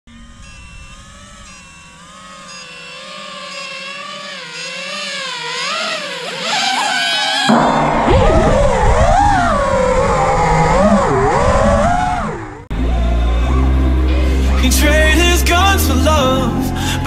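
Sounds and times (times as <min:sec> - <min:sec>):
quadcopter motors whining: 0:00.1 - 0:17.0.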